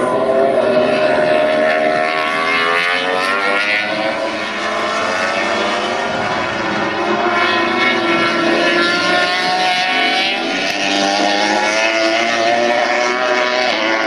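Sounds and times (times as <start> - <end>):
racing motorcycles passing at high revs: 0.0 - 14.0.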